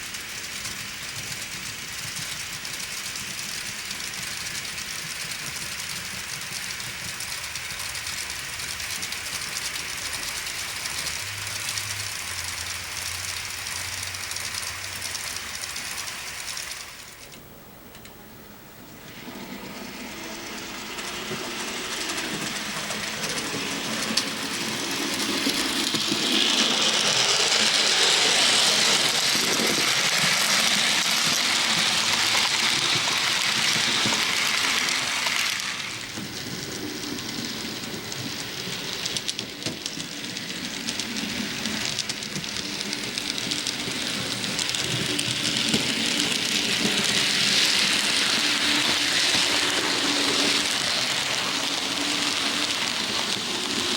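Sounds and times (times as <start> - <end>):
model train wheels rumbling on rails: 0.0 - 53.9.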